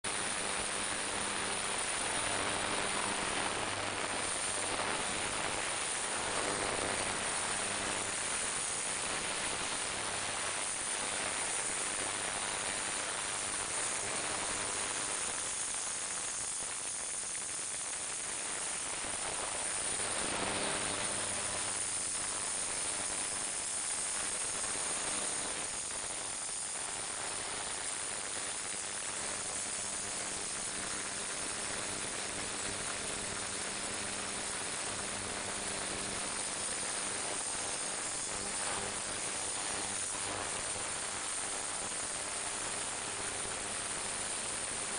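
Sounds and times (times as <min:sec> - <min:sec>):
ultrasonic cleaner hissing: 0:00.1 - 0:44.9.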